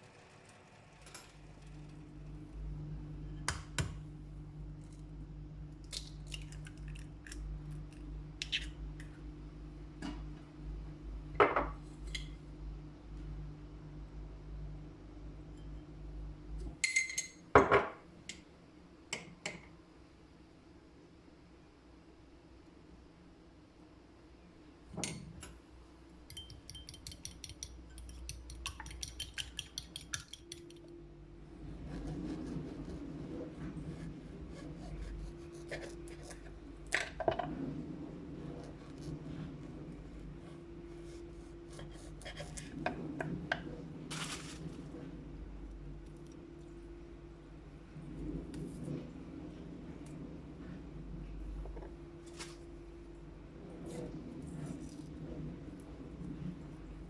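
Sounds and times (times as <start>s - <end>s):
steady low hum: 1.0s - 57.0s.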